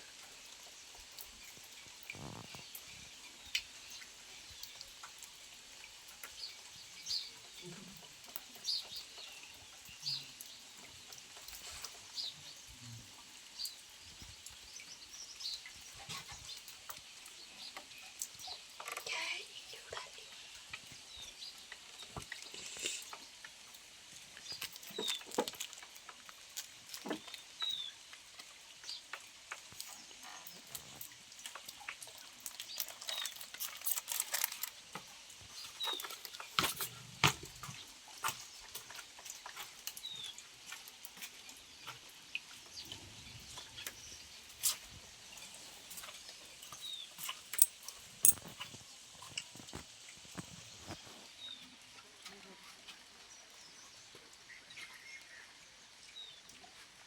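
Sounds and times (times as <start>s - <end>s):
drops pattering and dripping: 0.0s - 57.0s
rain falling: 0.0s - 57.0s.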